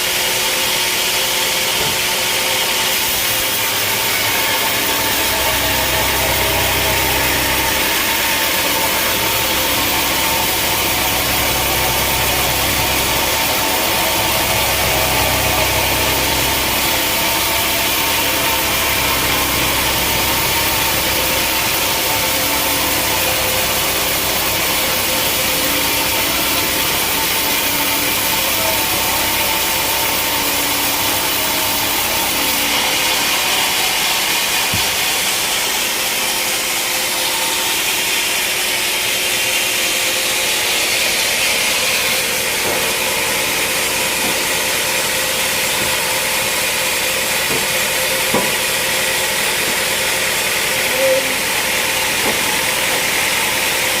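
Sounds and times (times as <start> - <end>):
saw cutting through log: 0.0 - 54.0
sawmill motor hum: 0.0 - 54.0.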